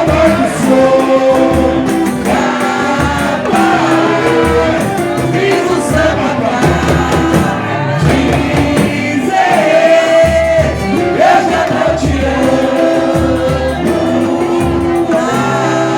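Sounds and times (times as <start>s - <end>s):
guitar: 0.0s - 15.9s
percussion beat: 0.0s - 15.9s
voices singing: 0.0s - 15.9s.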